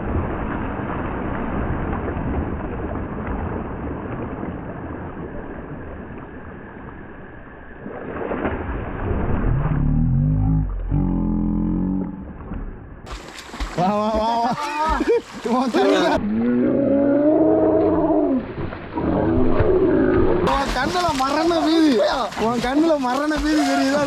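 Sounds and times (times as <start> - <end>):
underwater rushing noise: 0.0 - 16.5, 17.4 - 24.0.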